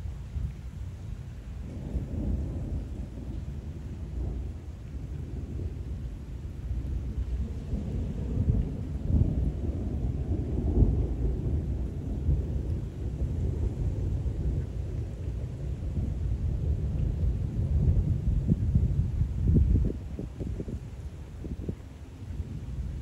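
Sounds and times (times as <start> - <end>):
rolling thunder rumble: 1.1 - 23.0.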